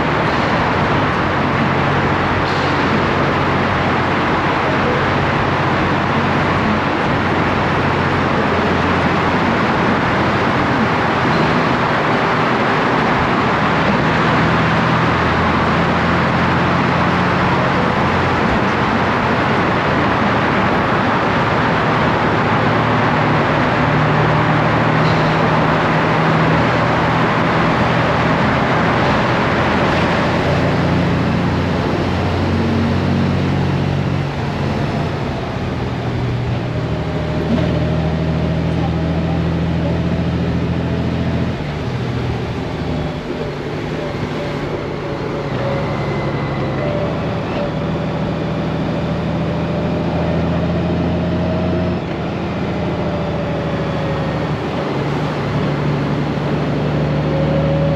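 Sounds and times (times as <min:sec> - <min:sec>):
motorcycle engine hum: 0:00.0 - 0:57.9
wind and road rush: 0:00.0 - 0:57.9.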